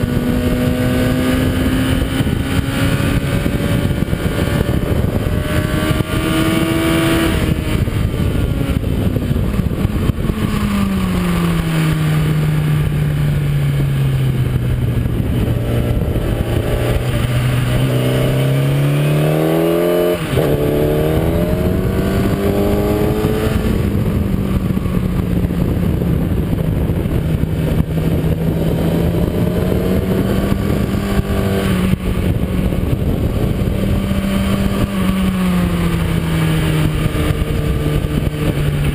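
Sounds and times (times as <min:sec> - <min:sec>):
motorcycle engine at speed: 0:00.0 - 0:38.9
wind rush: 0:00.0 - 0:38.9.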